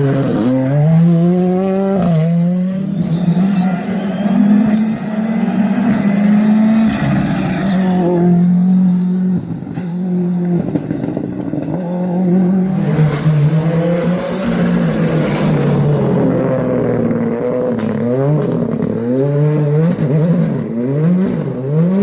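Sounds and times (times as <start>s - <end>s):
rally car engine revving: 0.0s - 22.0s
rushing tyre noise: 0.0s - 22.0s.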